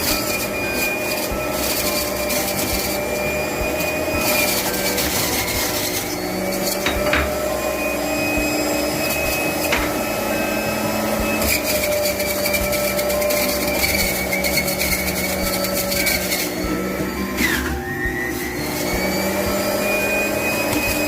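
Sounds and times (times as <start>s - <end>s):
juicer motor running: 0.0s - 21.0s.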